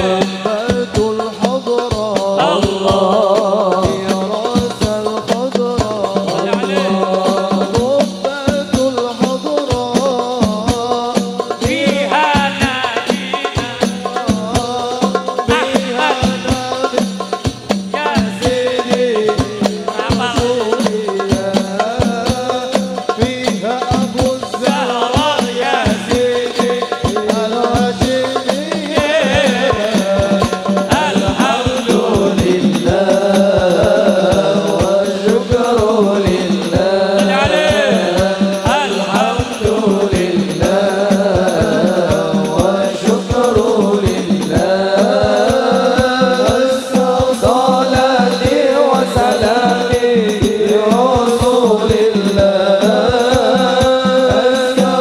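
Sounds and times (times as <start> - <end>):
frame drums hand-drumming: 0.0 - 55.0
group singing devotional song: 0.0 - 55.0.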